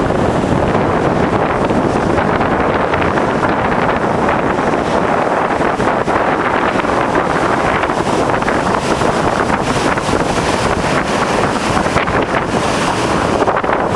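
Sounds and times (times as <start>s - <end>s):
big waves: 0.0s - 13.9s
wind buffeting microphone: 0.0s - 13.9s.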